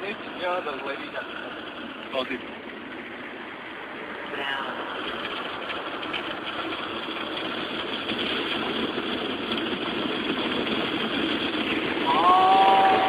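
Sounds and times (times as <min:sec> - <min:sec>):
car wash water spray rushing: 0:00.0 - 0:13.0.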